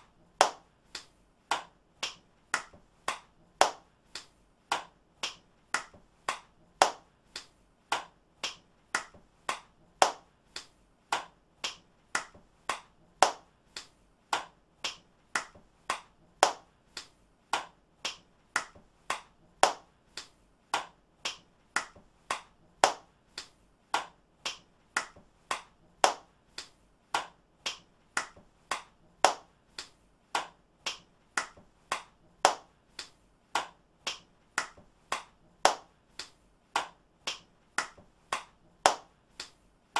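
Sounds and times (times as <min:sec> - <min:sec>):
hands clapping: 0:00.0 - 0:39.9.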